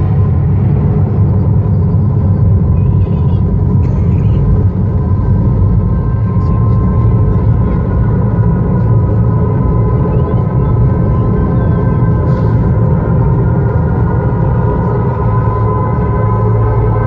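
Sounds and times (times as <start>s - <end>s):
low rumble over loudspeakers: 0.0s - 17.0s.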